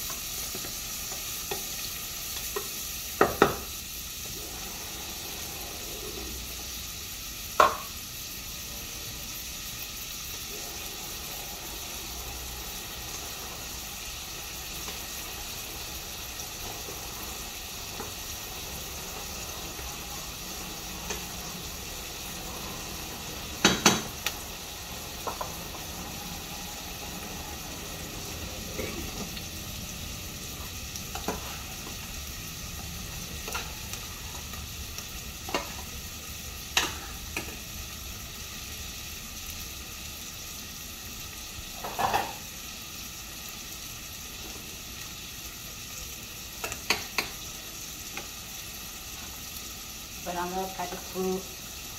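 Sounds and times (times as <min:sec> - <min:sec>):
pots simmering hiss: 0:00.0 - 0:51.9.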